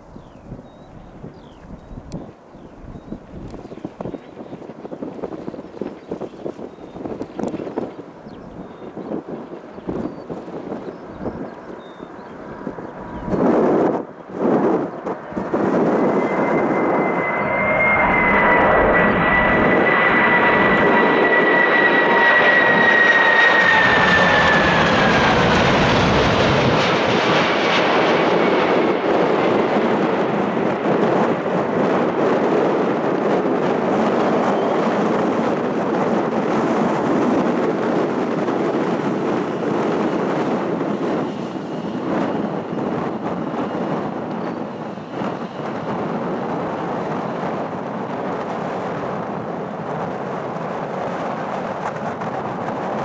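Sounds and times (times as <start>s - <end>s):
jet engine whine: 0.0s - 53.0s
jet rumble: 0.0s - 53.0s.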